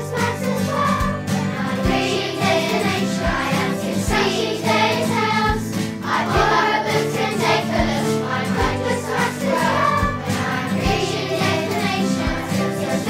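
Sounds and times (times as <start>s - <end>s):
song with group vocals and beat: 0.0s - 13.0s.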